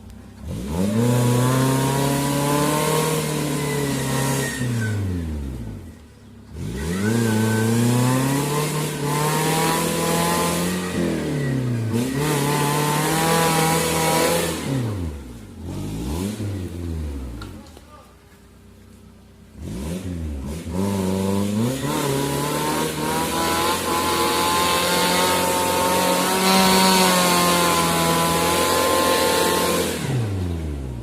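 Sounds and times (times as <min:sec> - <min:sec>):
engine revving hard: 0:00.4 - 0:17.6, 0:19.6 - 0:31.0.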